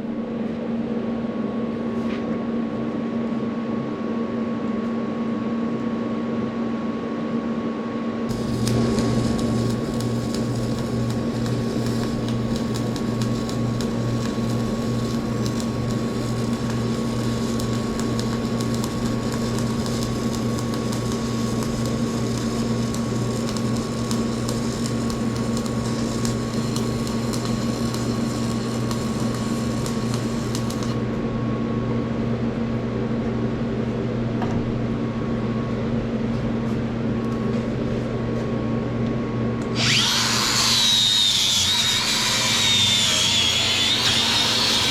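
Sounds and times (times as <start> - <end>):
steady electrical hum: 0.0 - 44.9.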